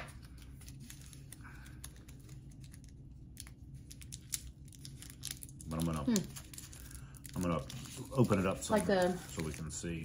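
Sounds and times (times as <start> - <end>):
candy packaging clicking: 0.0 - 9.8
low room hum: 0.0 - 10.0.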